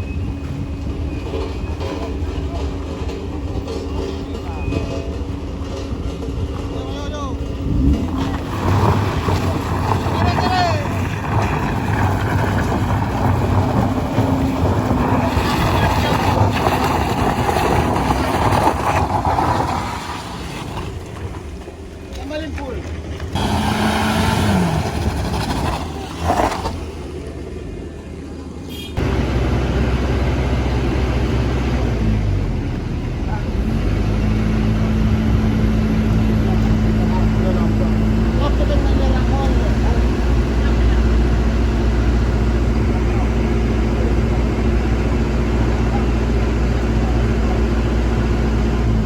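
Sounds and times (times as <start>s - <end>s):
heavy vehicle engines climbing: 0.0s - 49.0s.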